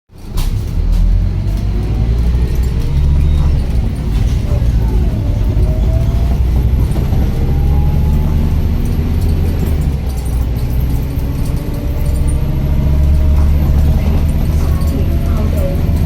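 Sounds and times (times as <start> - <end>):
heavy vehicle engine rumbling: 0.1 - 16.0.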